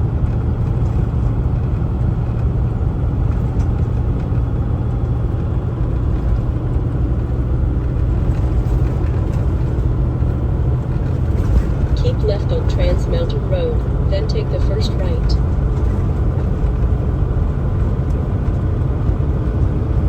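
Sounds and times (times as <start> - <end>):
road rumble: 0.0 - 20.0
truck engine drone: 0.0 - 20.0.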